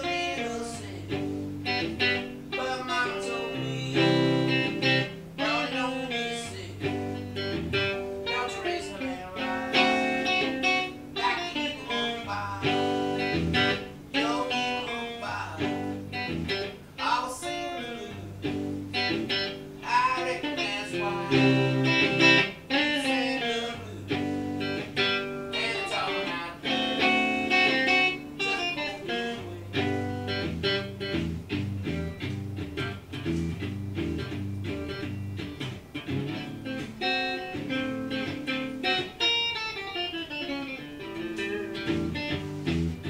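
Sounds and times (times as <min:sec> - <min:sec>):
electric guitar playing blues: 0:00.0 - 0:43.0.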